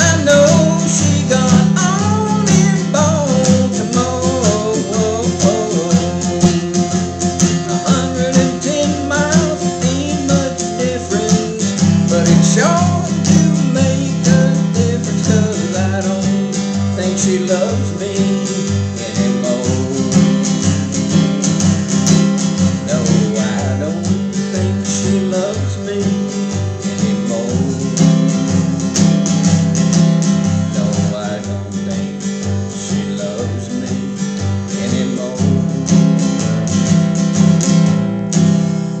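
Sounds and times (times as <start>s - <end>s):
acoustic guitar playing: 0.0s - 39.0s.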